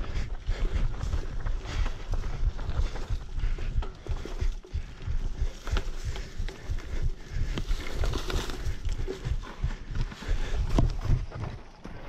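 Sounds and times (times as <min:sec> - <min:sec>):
bike rattling and knocking: 0:00.0 - 0:12.0.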